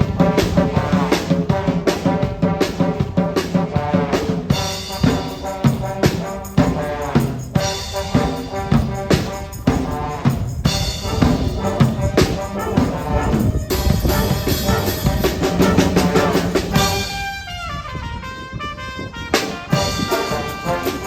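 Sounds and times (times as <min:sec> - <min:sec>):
drum kit: 0:00.0 - 0:17.2, 0:19.4 - 0:21.0
upbeat brass band tune: 0:00.0 - 0:21.0.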